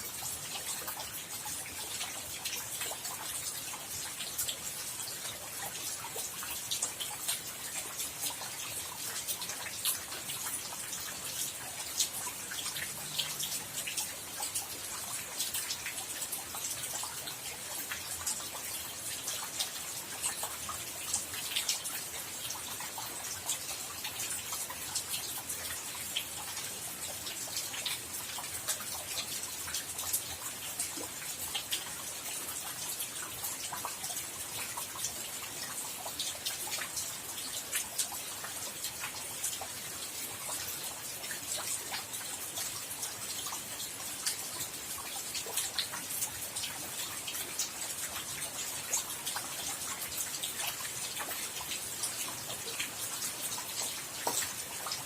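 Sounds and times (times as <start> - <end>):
rain hissing with drop ticks: 0.0 - 55.0.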